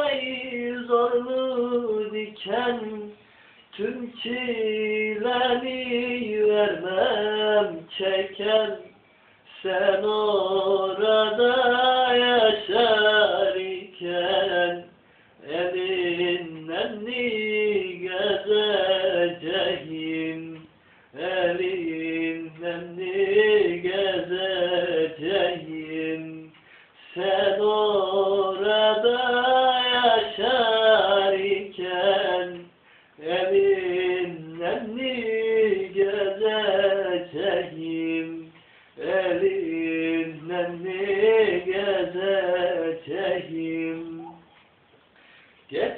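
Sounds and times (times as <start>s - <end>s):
man singing: 0.0s - 44.5s, 45.7s - 45.9s.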